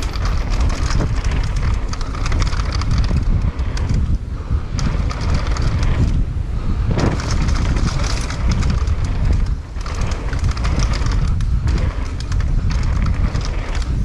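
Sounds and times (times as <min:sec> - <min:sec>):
bike rattling and clicking: 0:00.0 - 0:14.0
tyres on loose dirt: 0:00.0 - 0:14.0
wind buffeting microphone: 0:00.0 - 0:14.0.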